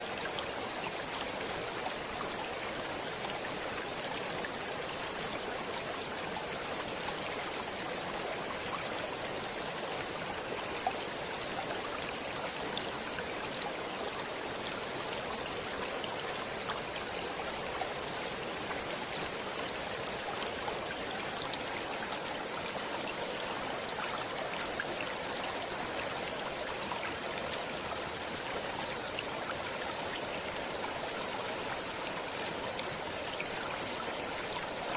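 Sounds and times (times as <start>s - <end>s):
stream water flowing: 0.0s - 34.9s.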